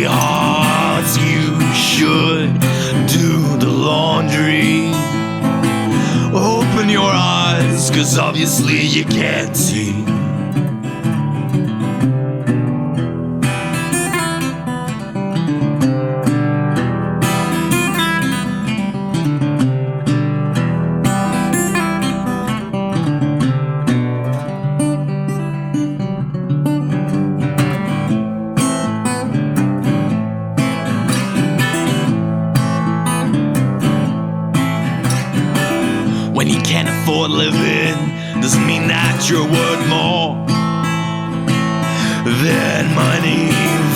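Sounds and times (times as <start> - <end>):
acoustic guitar strummed and picked: 0.0 - 43.9.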